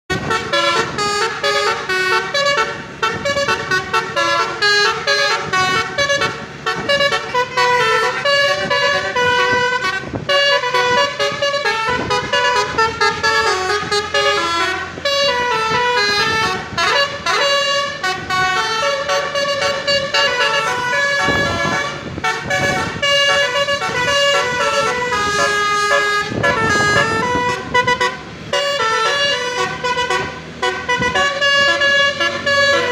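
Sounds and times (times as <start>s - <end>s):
multi-tone vehicle horn melody: 0.1s - 32.9s.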